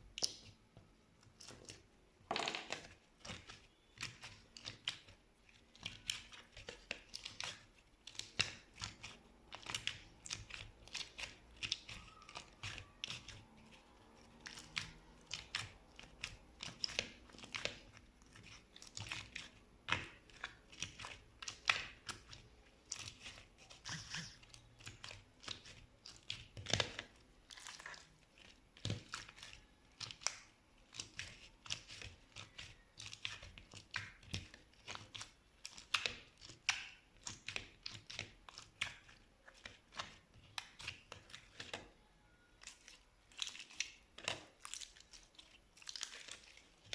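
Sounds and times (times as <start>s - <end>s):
slime crackling and popping: 2.6s - 42.0s, 42.6s - 46.9s.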